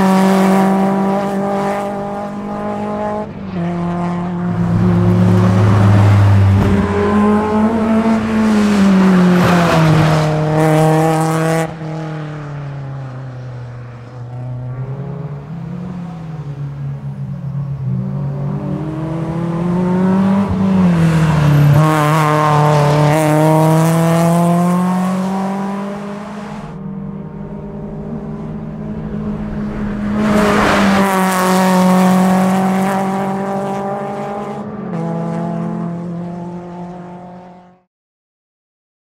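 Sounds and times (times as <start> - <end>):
race car engine passing: 0.0 - 37.8.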